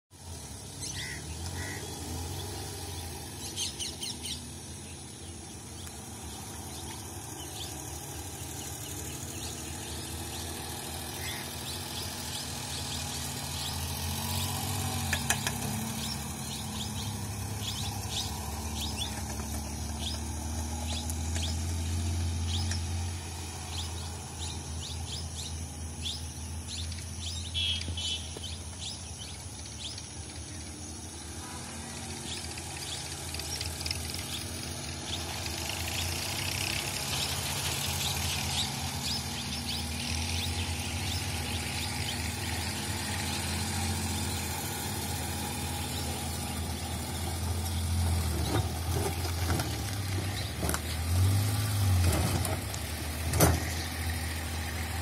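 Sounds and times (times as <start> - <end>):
small car engine running: 0.1 - 55.0
birds chirping: 0.2 - 55.0.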